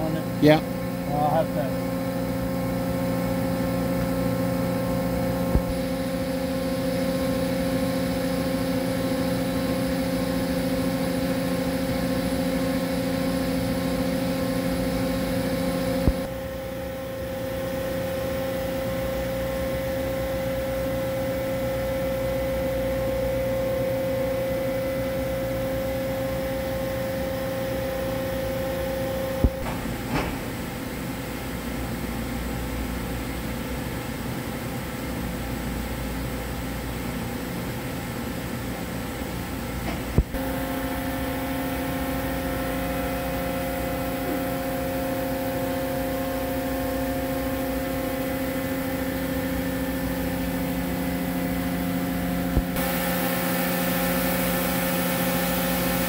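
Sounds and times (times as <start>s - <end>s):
machine hum and whine: 0.0s - 56.0s.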